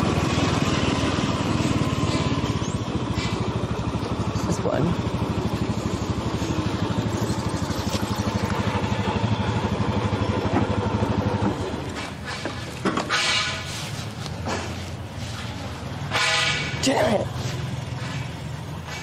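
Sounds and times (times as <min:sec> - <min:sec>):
small motorbike engine running: 0:00.0 - 0:19.0.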